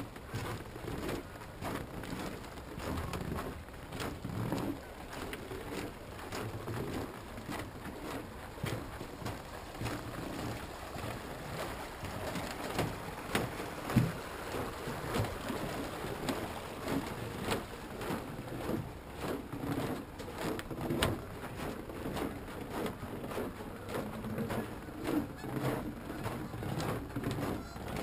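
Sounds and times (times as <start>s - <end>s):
footsteps on snowy wooden boards: 0.0s - 28.0s
low uneven rumble: 0.0s - 28.0s.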